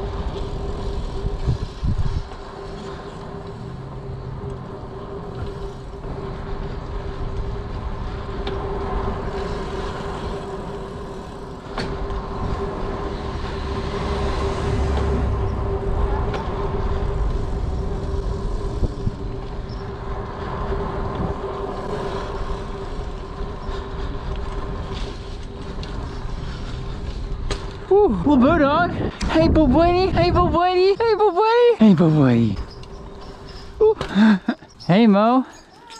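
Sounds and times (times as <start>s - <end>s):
wind rumble on microphone: 0.0s - 31.3s
bicycle tyres and drivetrain humming: 0.0s - 35.9s
road noise: 0.0s - 35.9s.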